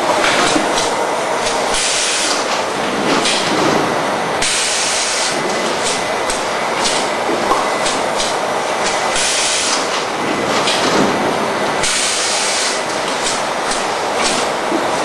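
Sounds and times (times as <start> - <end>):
packing machine clatter: 0.0 - 15.0.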